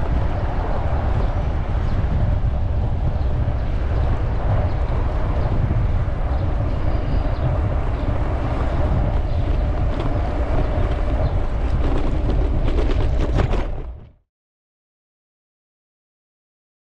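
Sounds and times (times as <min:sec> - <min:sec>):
wind rush on microphone: 0:00.0 - 0:14.2.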